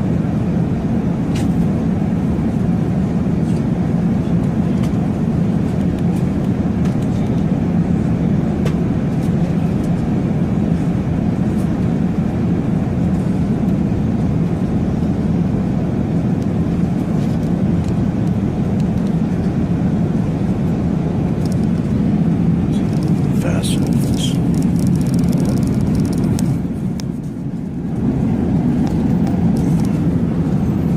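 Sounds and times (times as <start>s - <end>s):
loud low rumbling drone: 0.0s - 30.9s.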